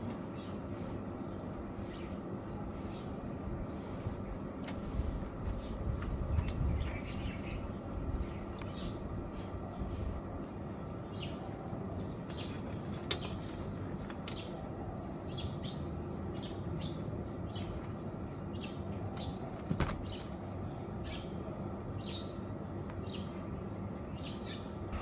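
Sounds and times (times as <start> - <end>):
small birds chirping: 0.0 - 25.0
steady background hum: 0.0 - 25.0.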